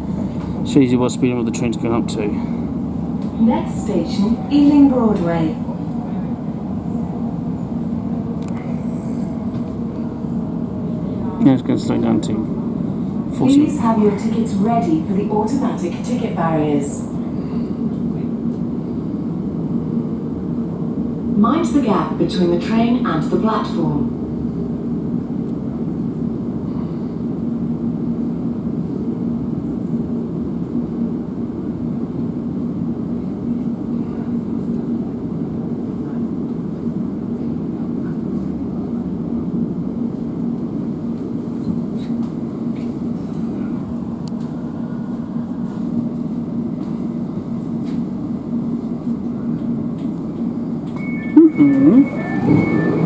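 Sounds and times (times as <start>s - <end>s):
train cabin rumble: 0.0s - 53.0s.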